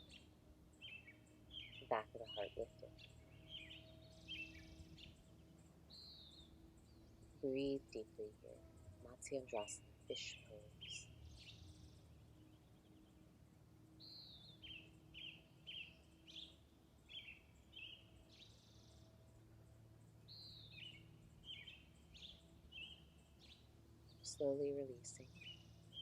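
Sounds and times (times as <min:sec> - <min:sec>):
low outdoor background: 0:00.0 - 0:26.0
songbird chirping: 0:00.0 - 0:26.0.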